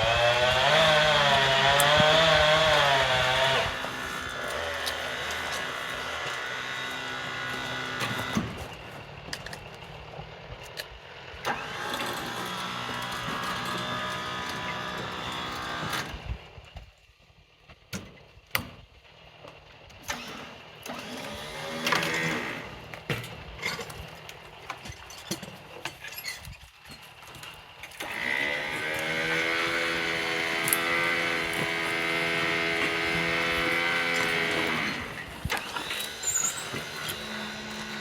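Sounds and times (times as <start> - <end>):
small petrol engine running: 0.0 - 16.6, 19.2 - 25.7, 27.0 - 38.0.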